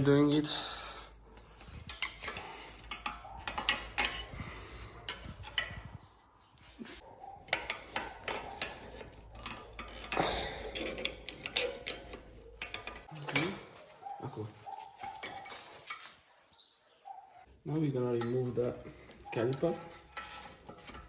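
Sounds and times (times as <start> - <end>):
tools clicking and clinking on metal: 1.1 - 6.0, 7.0 - 16.2, 18.1 - 21.0.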